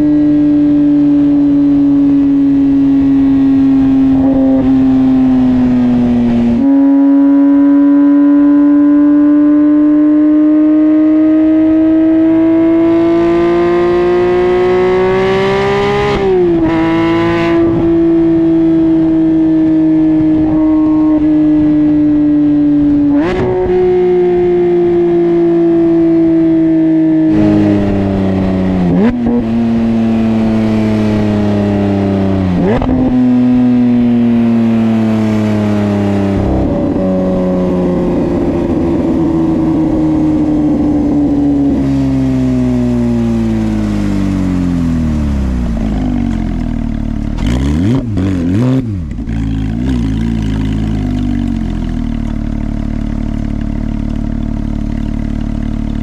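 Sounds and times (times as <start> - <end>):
sports car exhaust accelerating: 0.0 - 56.0.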